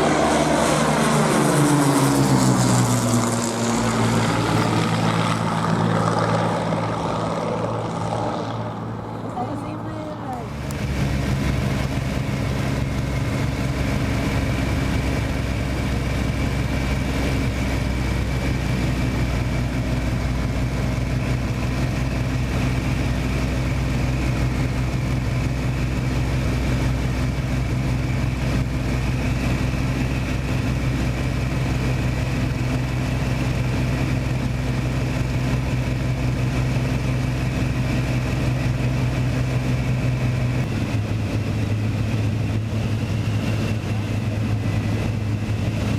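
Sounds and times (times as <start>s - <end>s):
engine droning steadily: 0.0s - 45.9s.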